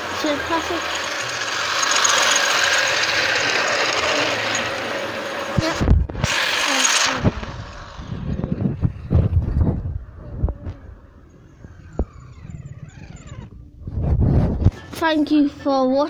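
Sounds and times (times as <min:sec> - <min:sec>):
toy train motor whirring: 0:00.0 - 0:13.6.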